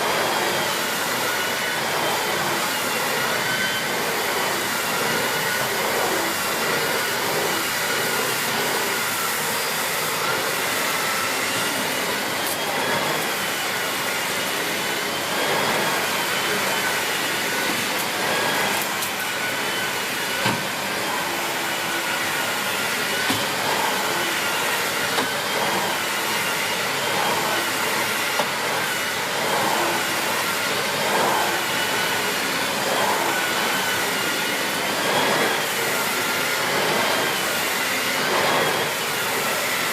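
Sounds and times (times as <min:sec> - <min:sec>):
vacuum cleaner whine: 0:00.0 - 0:39.9.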